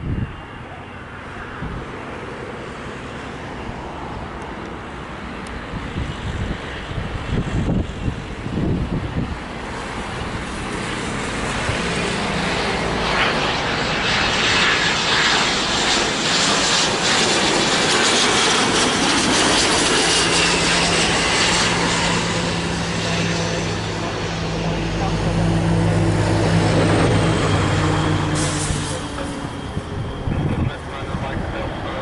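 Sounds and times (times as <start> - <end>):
high engine whine: 0.0 - 32.0
jet engines landing: 0.0 - 32.0.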